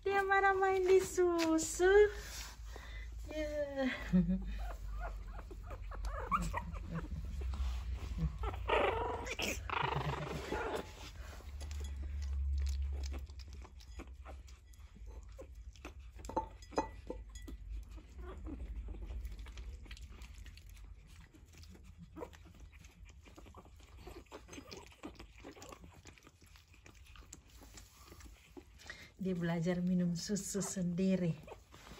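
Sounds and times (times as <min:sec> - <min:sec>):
puppies lapping milk: 0:00.1 - 0:31.9
puppy whines and grunts: 0:02.7 - 0:31.9.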